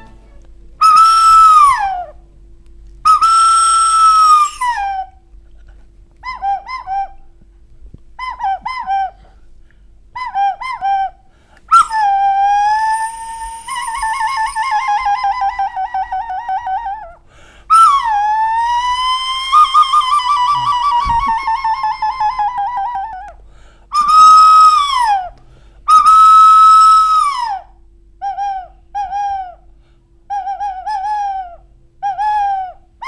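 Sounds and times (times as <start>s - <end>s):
whistle calls and chirps: 0.0s - 2.2s, 3.0s - 5.2s, 6.2s - 7.2s, 8.2s - 9.3s, 10.1s - 25.3s, 25.9s - 29.7s, 30.3s - 32.8s.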